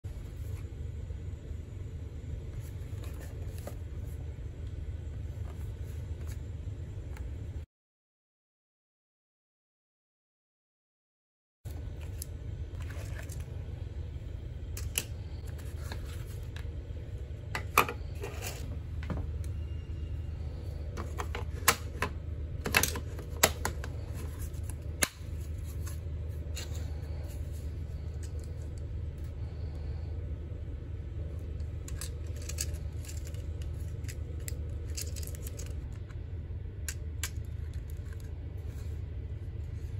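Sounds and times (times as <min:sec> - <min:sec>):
low hum: 0:00.0 - 0:07.7, 0:11.7 - 0:39.9.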